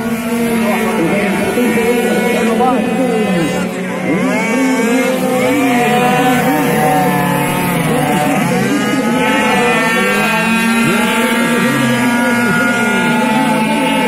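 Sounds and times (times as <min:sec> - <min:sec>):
two-stroke motorcycle engines racing: 0:00.0 - 0:14.0.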